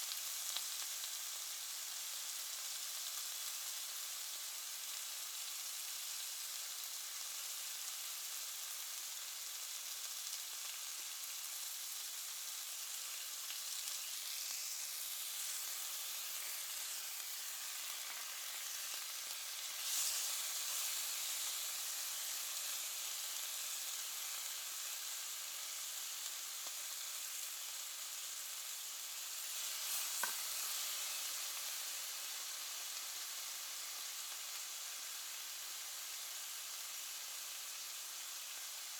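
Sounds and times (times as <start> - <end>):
meat sizzling in a frying pan: 0.0 - 38.9.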